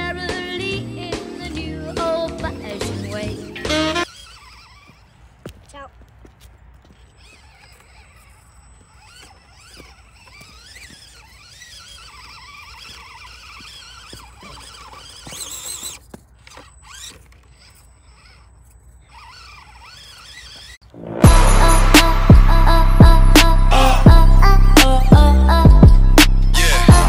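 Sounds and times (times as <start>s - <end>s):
electric motor and gearbox whining: 0.0s - 27.0s.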